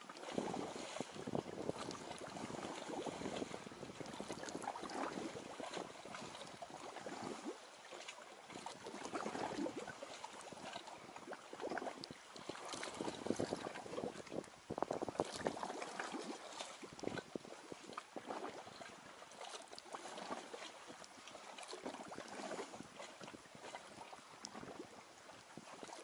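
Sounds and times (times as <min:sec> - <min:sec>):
waves lapping on stony shore: 0:00.0 - 0:26.0.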